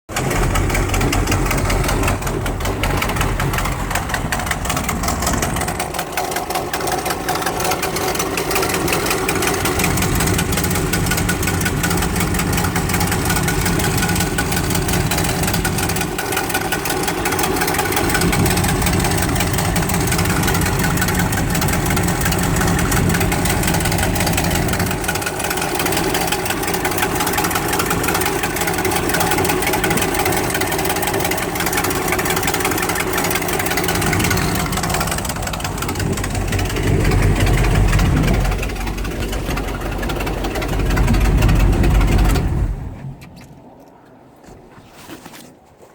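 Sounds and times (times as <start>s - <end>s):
exhaust leak ticking puffs: 0.1s - 43.5s
engine idling: 0.1s - 43.7s.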